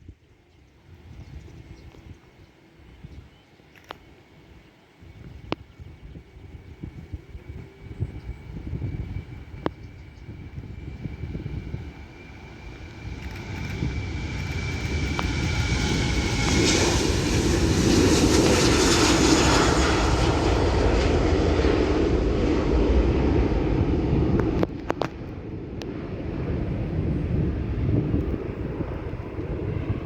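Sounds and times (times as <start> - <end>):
jet airliner engine roar: 0.0 - 30.0.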